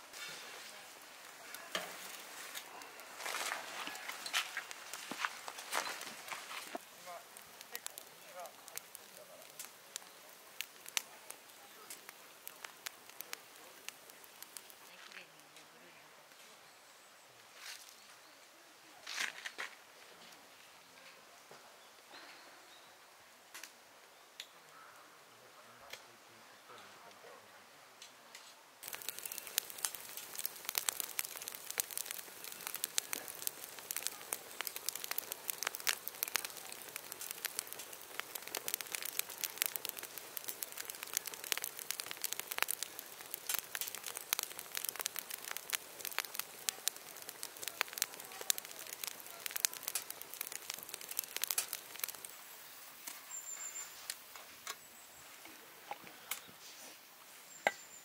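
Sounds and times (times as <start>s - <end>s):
campfire crackling and popping: 0.0s - 16.4s, 23.5s - 24.6s, 28.0s - 58.0s.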